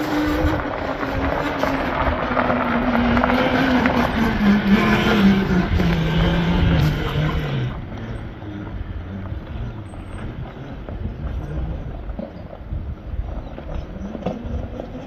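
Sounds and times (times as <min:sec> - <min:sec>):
tyres on gravel: 0:00.0 - 0:15.0.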